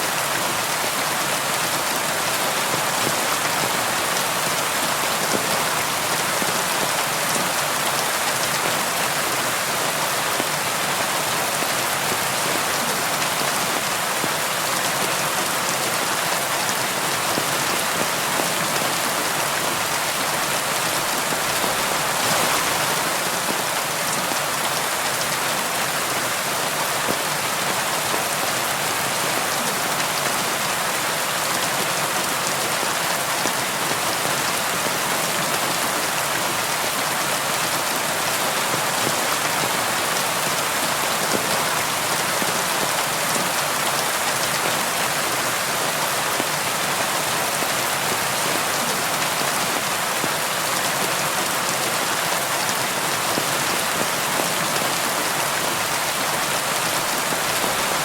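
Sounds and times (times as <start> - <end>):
rain on a window: 0.1 - 58.0.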